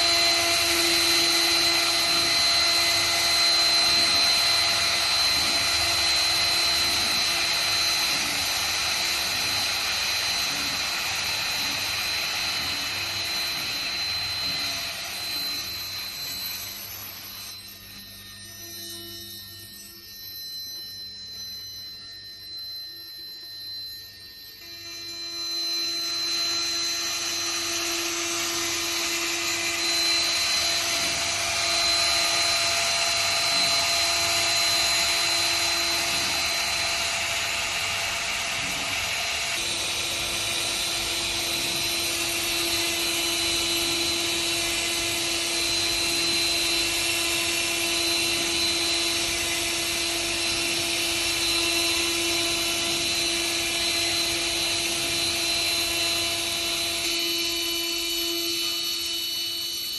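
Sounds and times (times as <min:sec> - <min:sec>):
router spindle whine: 0:00.0 - 0:59.9.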